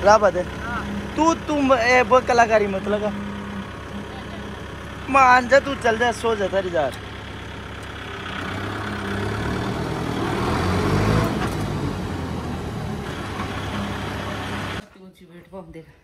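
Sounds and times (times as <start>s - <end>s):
tractor engine running: 0.0s - 14.8s.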